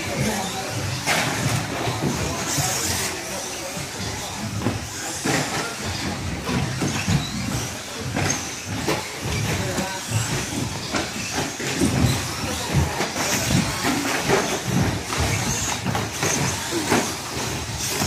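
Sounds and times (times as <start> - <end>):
rc truck motors and tyres rushing: 0.0 - 18.0.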